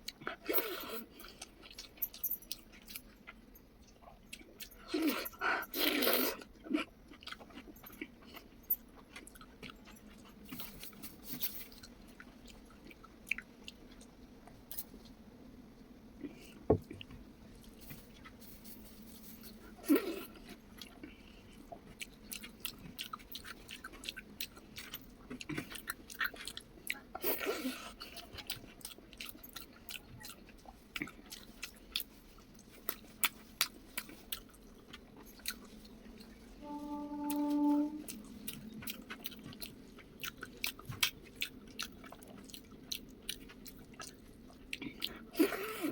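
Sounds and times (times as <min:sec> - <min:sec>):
wet chewing and smacking: 0:00.0 - 0:15.2, 0:19.6 - 0:36.5, 0:38.1 - 0:45.9.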